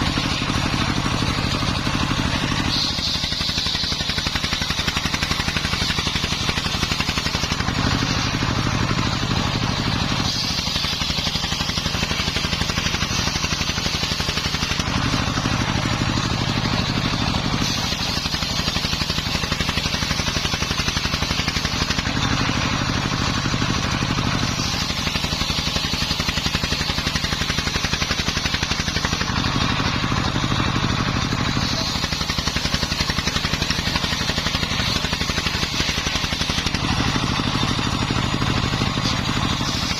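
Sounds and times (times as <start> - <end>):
circular saw cutting timber: 0.0 - 39.9
diesel engine running: 0.0 - 39.9.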